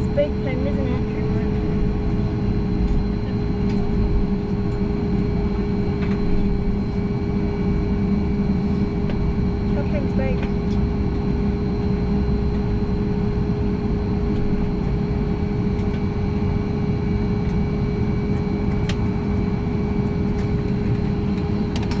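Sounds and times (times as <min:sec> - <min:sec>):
airplane cabin rumble: 0:00.0 - 0:22.0
steady hum: 0:00.0 - 0:22.0.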